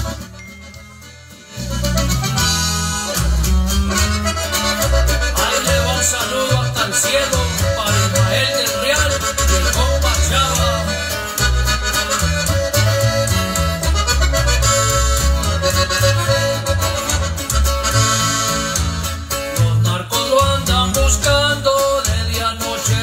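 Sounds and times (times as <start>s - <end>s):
accordion lead melody: 0.0s - 23.0s
bass line: 0.0s - 23.0s
guitar: 0.0s - 23.0s.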